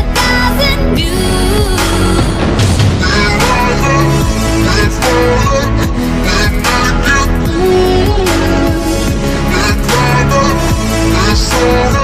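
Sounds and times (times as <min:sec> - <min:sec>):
instrumental song music: 0:00.0 - 0:12.0.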